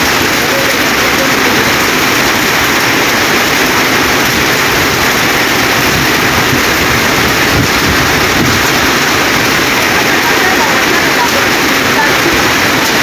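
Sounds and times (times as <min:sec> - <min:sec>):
storm water rushing: 0:00.0 - 0:13.0.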